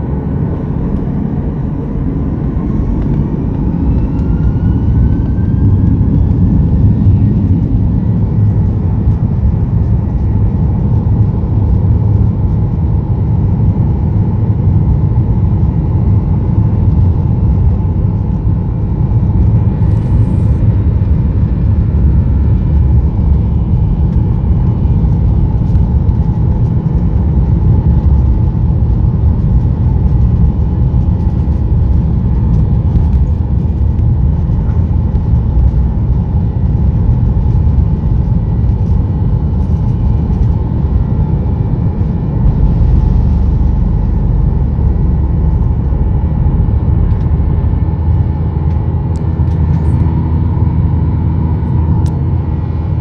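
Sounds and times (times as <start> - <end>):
jet engines rumbling in cabin: 0.0 - 53.0.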